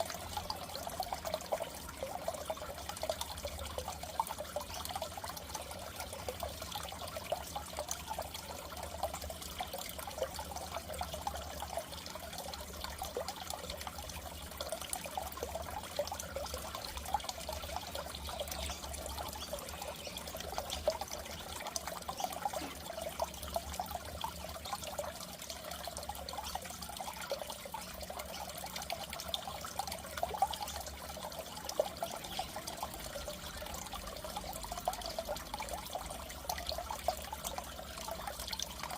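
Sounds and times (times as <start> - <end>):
low steady hum: 0.0 - 38.9
water trickling and bubbling: 0.0 - 38.9.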